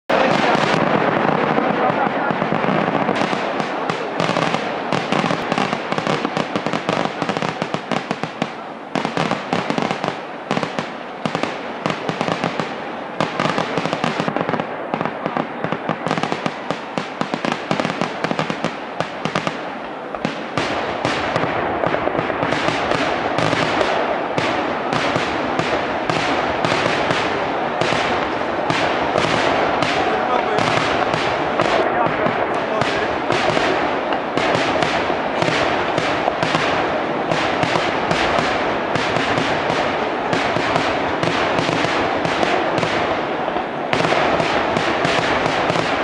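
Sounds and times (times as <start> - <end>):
fireworks bangs and cracks: 0.0 - 46.0.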